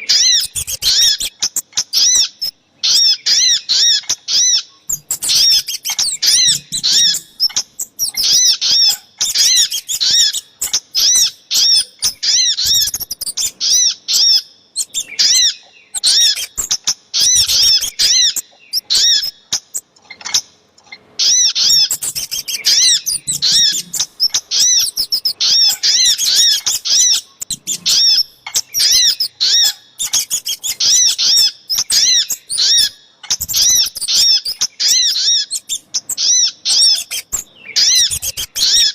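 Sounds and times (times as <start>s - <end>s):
rapid high bird chirps: 0.0s - 38.9s.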